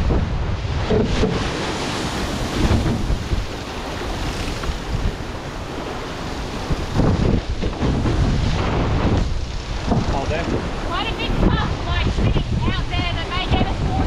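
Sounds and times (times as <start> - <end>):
water rushing past hulls: 0.0 - 14.0
wind buffeting microphone: 0.0 - 14.0.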